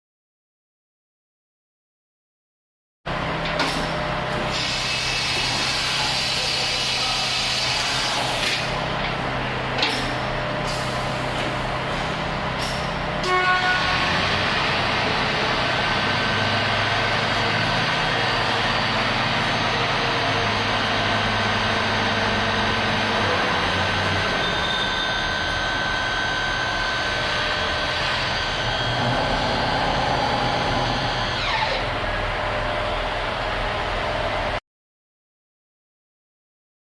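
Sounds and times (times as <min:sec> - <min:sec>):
machine hum and whine: 0:03.1 - 0:34.6.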